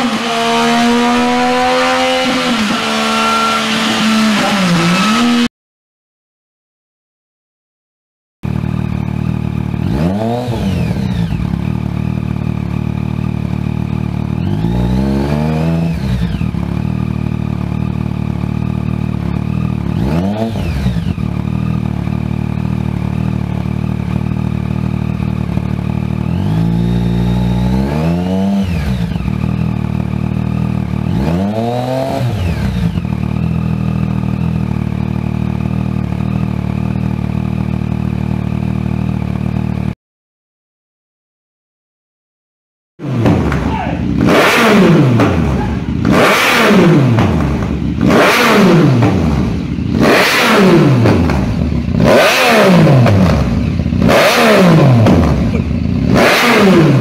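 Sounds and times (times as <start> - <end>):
motorcycle engine revving: 0.0 - 5.5, 8.4 - 40.0, 43.0 - 57.0.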